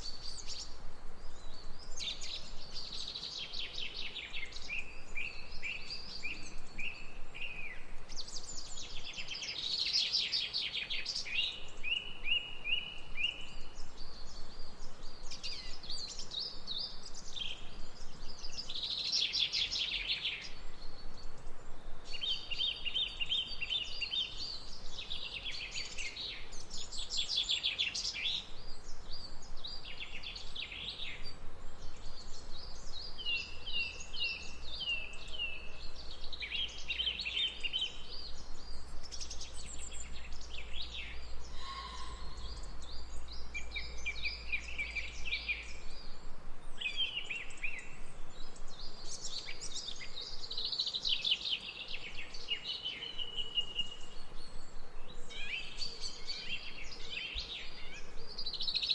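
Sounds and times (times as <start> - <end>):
faint outdoor background: 0.0 - 58.9
songbirds singing: 0.0 - 58.9.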